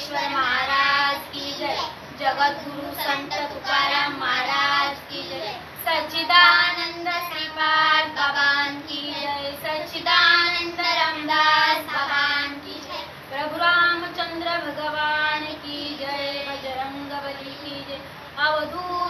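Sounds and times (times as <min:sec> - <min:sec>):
woman singing a chant: 0:00.0 - 0:19.0.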